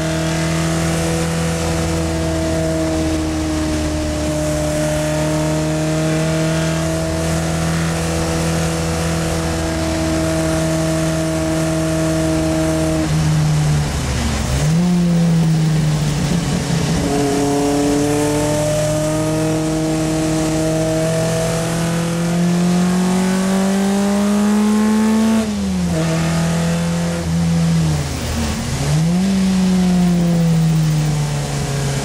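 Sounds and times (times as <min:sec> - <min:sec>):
car engine under load: 0:00.0 - 0:32.0.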